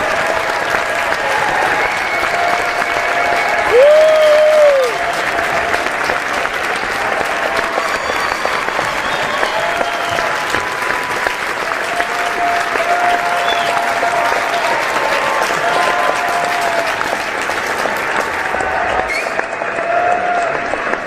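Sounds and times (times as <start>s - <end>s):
audience applauding: 0.0s - 21.0s
cheering shouts: 0.0s - 21.0s.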